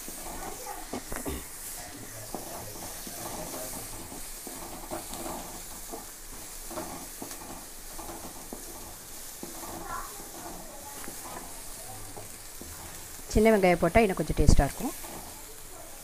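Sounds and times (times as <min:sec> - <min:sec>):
onions sizzling in hot oil: 0:00.0 - 0:16.0
wooden spatula scraping: 0:00.0 - 0:16.0.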